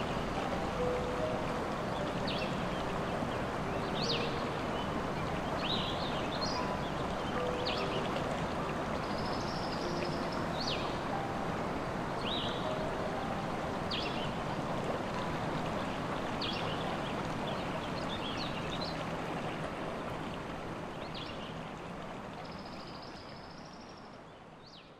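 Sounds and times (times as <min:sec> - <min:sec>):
flowing stream: 0:00.0 - 0:24.9.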